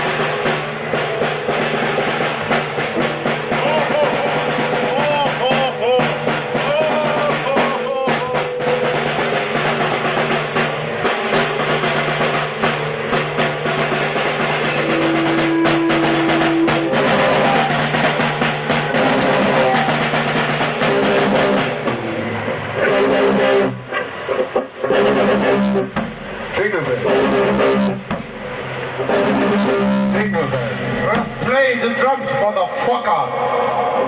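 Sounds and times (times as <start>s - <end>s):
rapid snare drum hits: 0.0s - 32.4s
live band music: 0.0s - 33.0s.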